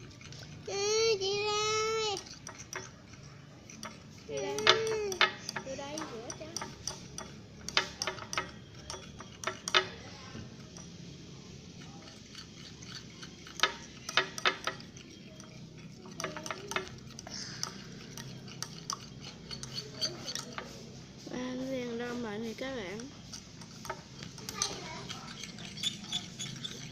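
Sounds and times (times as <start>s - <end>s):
utensil scraping a small bowl: 0.0s - 26.9s.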